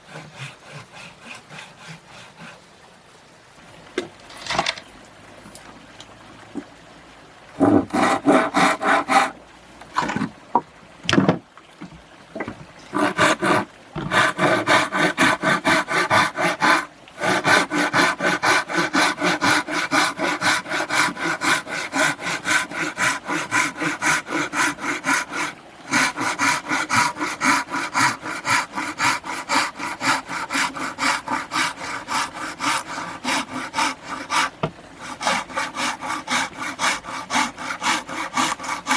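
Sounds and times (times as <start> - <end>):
hand saw cutting wood: 0.0 - 2.6, 3.7 - 5.7, 7.6 - 10.3, 12.4 - 38.9.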